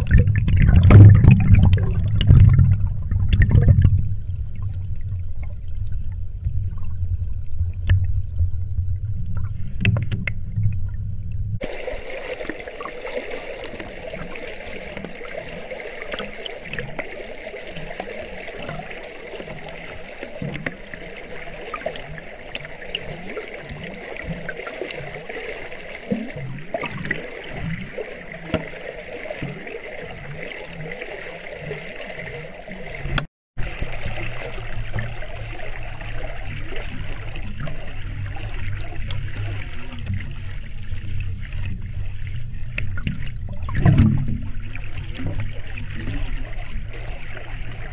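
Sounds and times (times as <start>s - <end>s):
stream water gurgling underwater: 0.0s - 47.9s.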